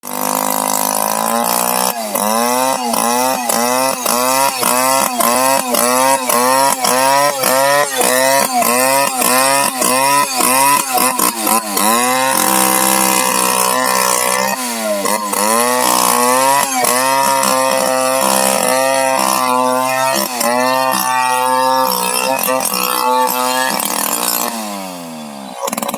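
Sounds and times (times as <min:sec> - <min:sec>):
chainsaw engine revving: 0:00.0 - 0:25.9.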